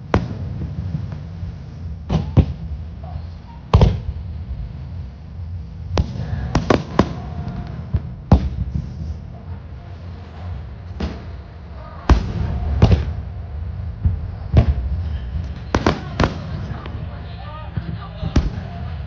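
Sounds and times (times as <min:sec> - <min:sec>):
fireworks bursting with sharp bangs: 0:00.0 - 0:19.0
steady low rumble: 0:00.0 - 0:19.0.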